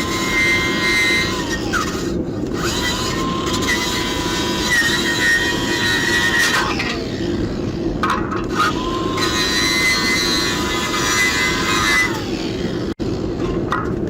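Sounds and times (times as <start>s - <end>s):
power tool motor whine: 0.0s - 13.6s.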